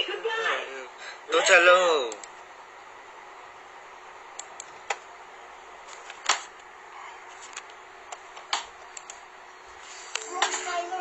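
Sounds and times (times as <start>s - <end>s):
steady hiss: 0.8s - 11.0s.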